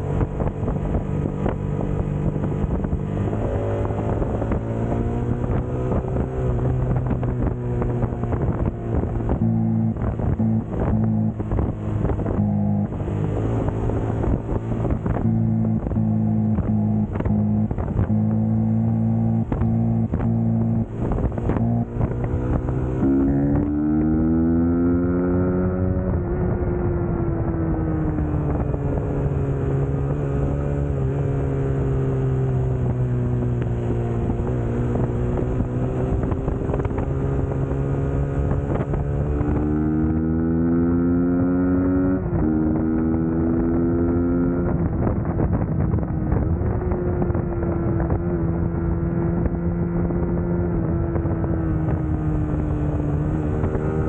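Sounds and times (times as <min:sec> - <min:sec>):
motorcycle engine accelerating: 0:00.0 - 0:54.0
wind buffeting microphone: 0:00.0 - 0:54.0.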